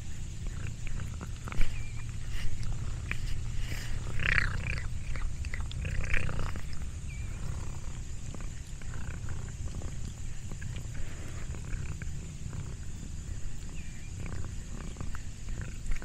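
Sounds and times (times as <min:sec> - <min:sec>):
cat purring: 0:00.0 - 0:16.0
small clicks and crackles: 0:00.0 - 0:16.0.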